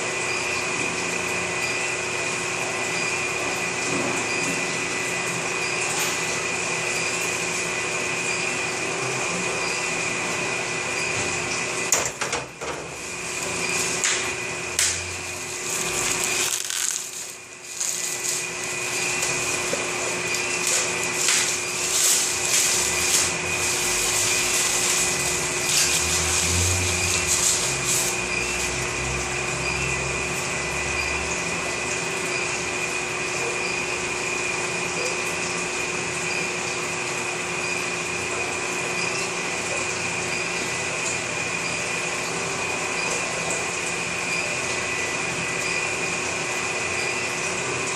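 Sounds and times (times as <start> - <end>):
electric furnace hiss and whine: 0.0 - 47.9.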